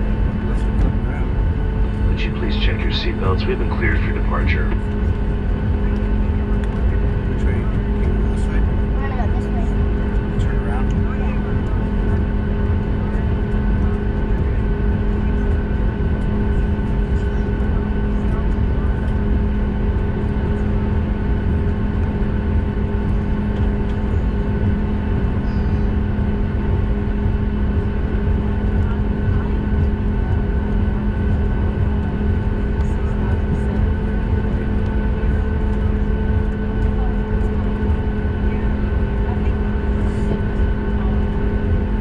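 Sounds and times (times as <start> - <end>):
airplane cabin rumble and hum: 0.0 - 42.0.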